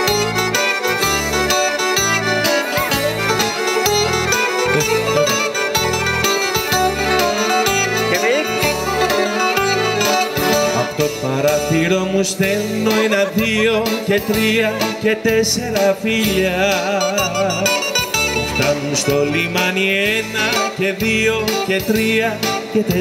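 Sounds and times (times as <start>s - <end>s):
guitar: 0.0s - 23.0s
keyboard: 0.0s - 23.0s
pulsing bass line: 0.0s - 23.0s.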